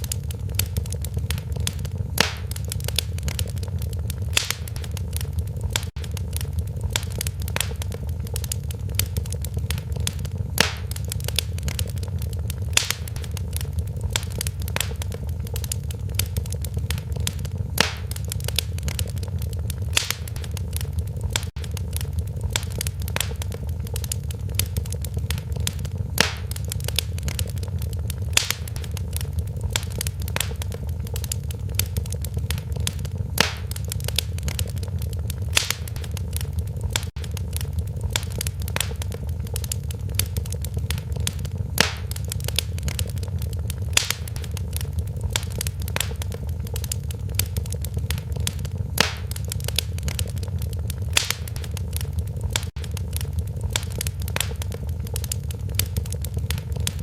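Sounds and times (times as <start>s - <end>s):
fire low rumble: 0.0s - 57.0s
fireplace crackling: 0.0s - 57.0s
sharp fire pops: 0.0s - 57.0s.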